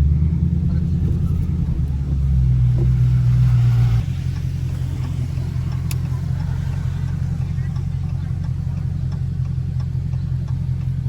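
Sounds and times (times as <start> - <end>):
car engine droning while driving: 0.0 - 11.0.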